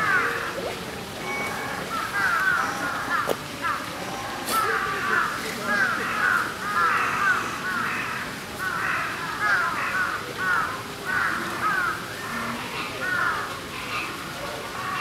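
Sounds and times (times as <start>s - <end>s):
birds calling: 0.0s - 14.2s.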